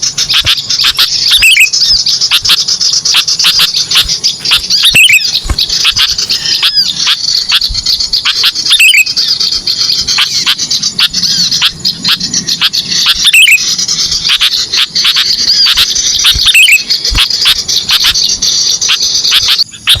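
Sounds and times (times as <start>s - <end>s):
descending bird call: 0.0s - 20.0s
small birds chirping: 0.0s - 20.0s.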